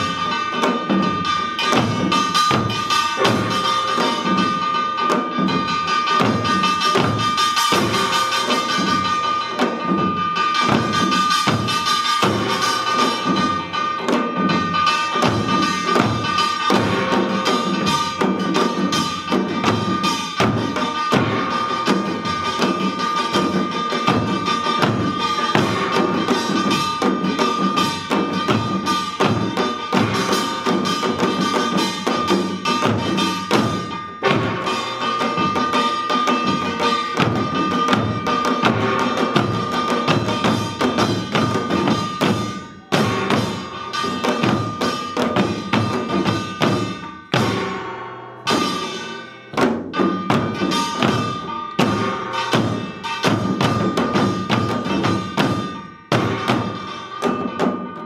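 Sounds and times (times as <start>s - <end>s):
drums beating fast rhythm: 0.0s - 58.0s
small gongs clanging: 0.0s - 58.0s.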